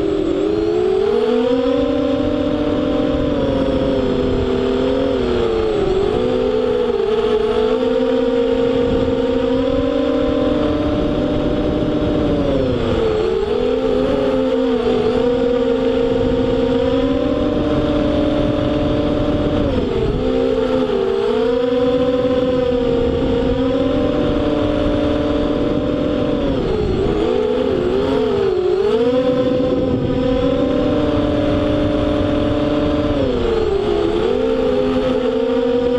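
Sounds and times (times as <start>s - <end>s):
drone motors whining: 0.0s - 35.9s.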